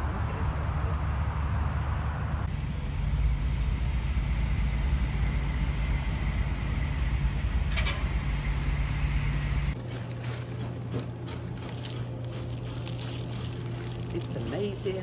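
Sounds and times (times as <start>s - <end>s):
city traffic rumble: 0.0s - 15.0s
engine-like hum: 0.0s - 15.0s.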